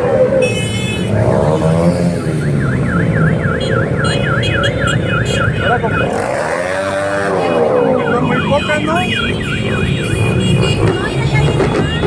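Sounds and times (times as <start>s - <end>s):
motorcycle engines rumbling: 0.0s - 12.0s
yelp siren warbling: 0.0s - 12.0s.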